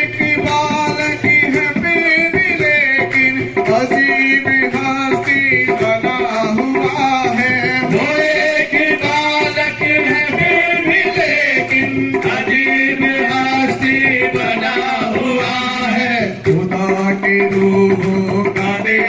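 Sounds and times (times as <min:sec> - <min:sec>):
tabla strokes: 0:00.0 - 0:19.0.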